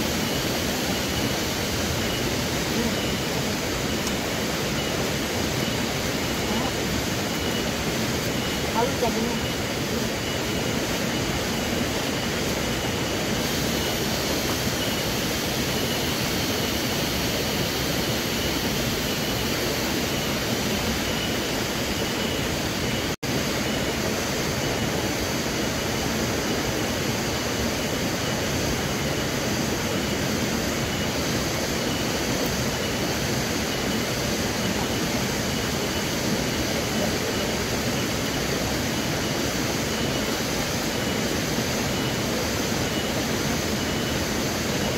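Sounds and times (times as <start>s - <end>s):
steady rushing noise: 0.0s - 44.9s.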